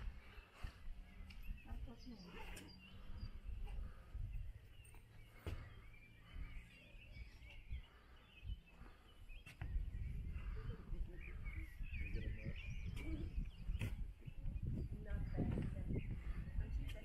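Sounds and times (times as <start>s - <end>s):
birds chirping and singing: 0.0s - 17.0s
wind buffeting microphone: 0.0s - 17.0s.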